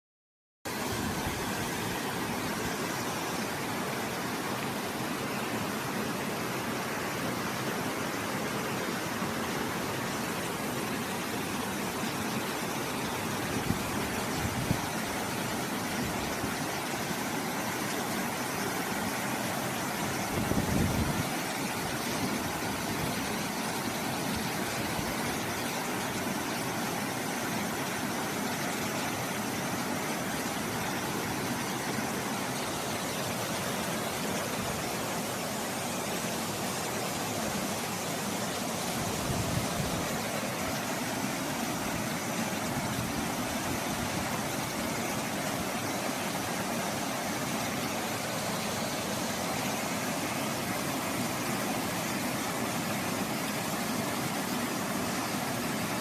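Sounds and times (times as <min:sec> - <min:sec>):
waterfall rushing: 0:00.7 - 0:56.0.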